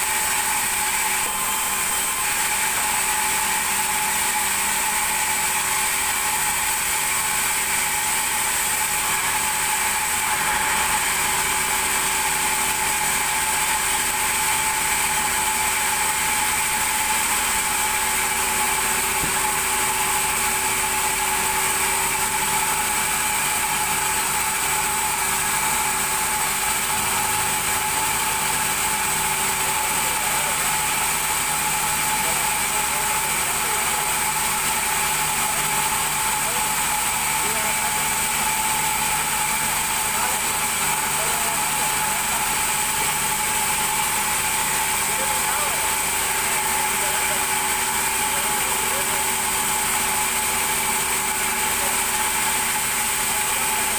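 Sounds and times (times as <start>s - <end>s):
bandsaw humming and whining: 0.0s - 53.9s.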